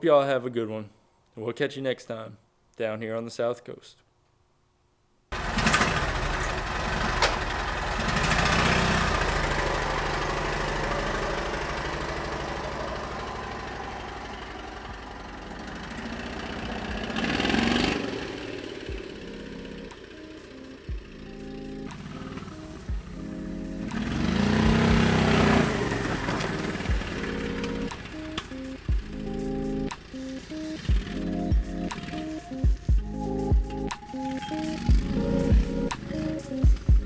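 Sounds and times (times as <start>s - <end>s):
golf cart engine running: 5.4s - 37.0s.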